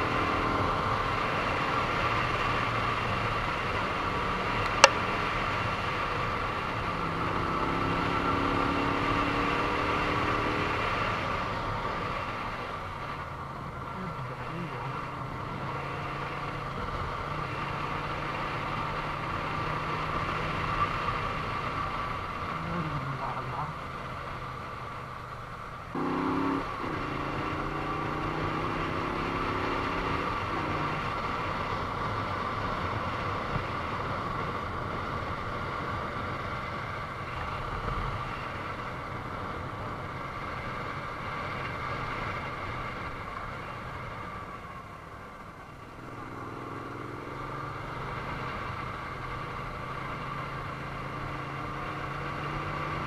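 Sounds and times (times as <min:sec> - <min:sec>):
motorcycle engine revving: 0:00.0 - 0:44.5, 0:45.8 - 0:53.0.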